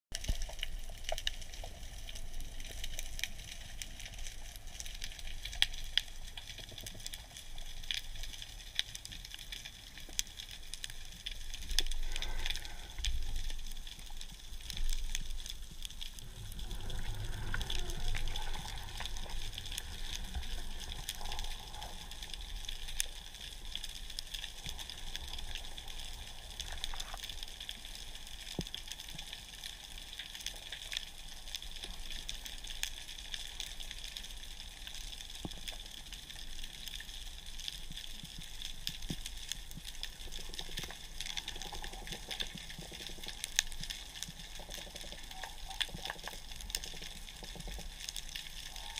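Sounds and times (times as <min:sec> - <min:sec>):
underwater crackle of clicks: 0:00.1 - 0:48.9.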